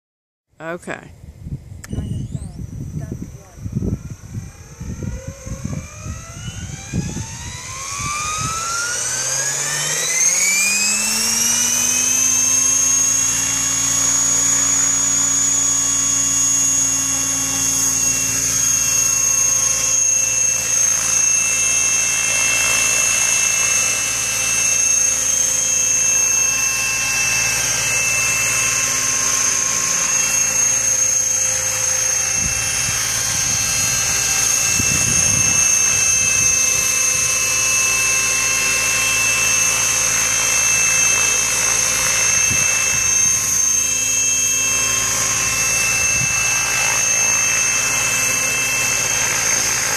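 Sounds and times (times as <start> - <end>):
model helicopter rotor whine: 0.6 - 49.9.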